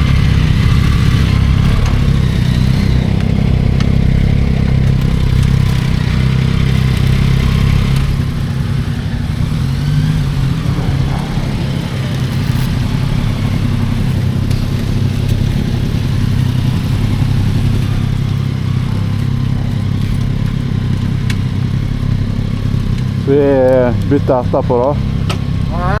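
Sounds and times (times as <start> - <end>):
air and road noise hiss: 0.0 - 25.7
motorcycle engine running: 0.0 - 26.0.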